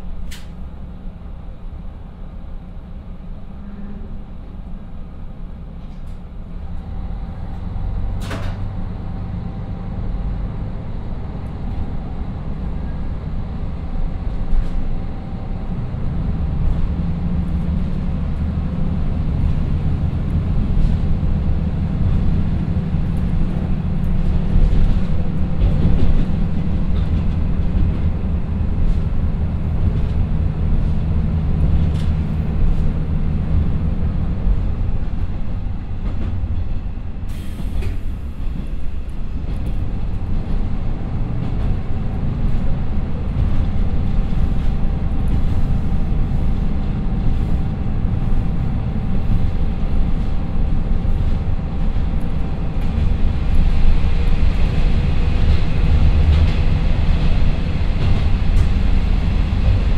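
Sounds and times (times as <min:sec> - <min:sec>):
diesel engines droning: 0:00.0 - 0:59.9.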